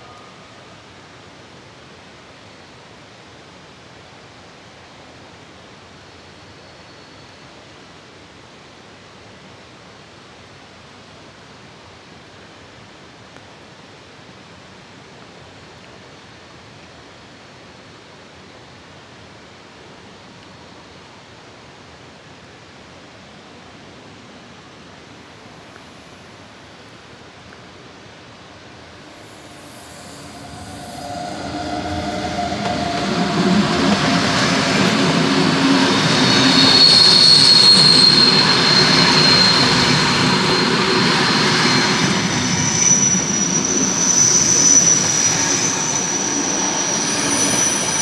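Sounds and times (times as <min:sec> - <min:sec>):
outdoor ambient rushing noise: 0:00.0 - 0:48.0.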